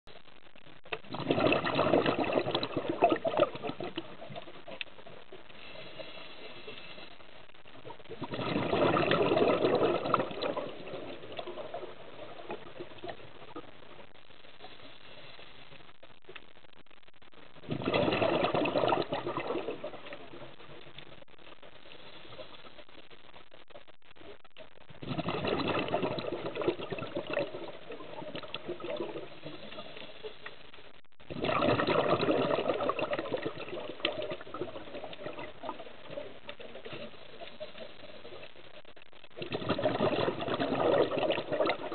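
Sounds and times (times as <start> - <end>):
faint steady hiss: 0.0 - 41.9
small crackles: 0.0 - 41.9
air bubbles underwater: 0.1 - 15.2, 17.6 - 23.1, 24.9 - 30.5, 31.2 - 41.9.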